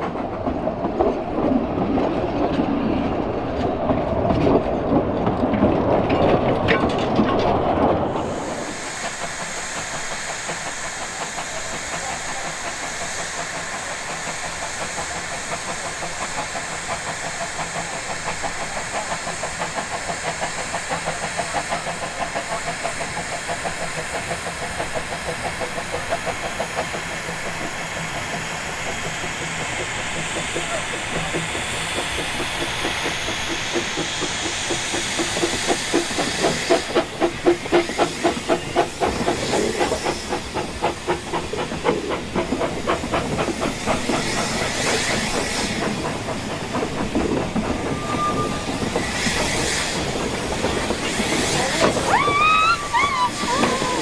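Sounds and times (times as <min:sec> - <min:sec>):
train wheels clicking over rail joints: 0:00.0 - 0:54.0
steam locomotive hissing: 0:07.6 - 0:54.0
locomotive exhaust beat: 0:08.2 - 0:54.0.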